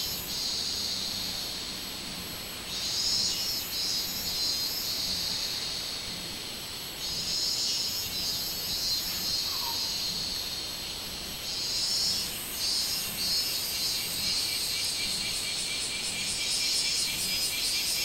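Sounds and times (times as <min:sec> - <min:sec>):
cicadas singing shrill drone: 0:00.0 - 0:18.0.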